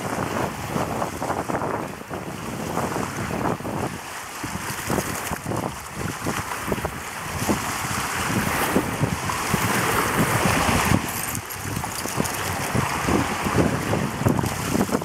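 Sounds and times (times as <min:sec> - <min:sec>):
waves breaking on pebbly shore: 0:00.0 - 0:15.0
wind buffeting microphone: 0:00.0 - 0:15.0.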